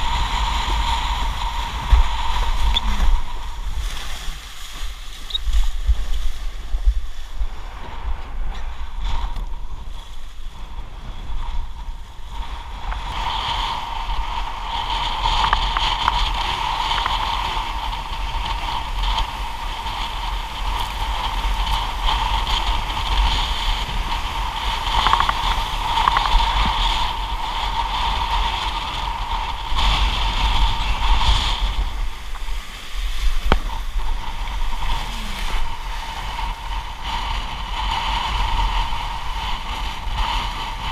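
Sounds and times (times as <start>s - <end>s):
water rushing and splashing: 0.0s - 8.2s, 11.4s - 40.9s
steady whine: 0.0s - 40.9s
wind buffeting microphone: 0.0s - 40.9s.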